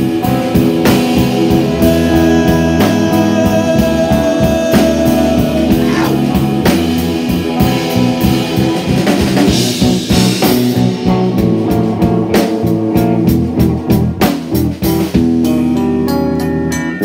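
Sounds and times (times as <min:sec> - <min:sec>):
drum kit beat: 0:00.0 - 0:16.7
electric bass: 0:00.0 - 0:17.0
electric guitar: 0:00.0 - 0:17.0.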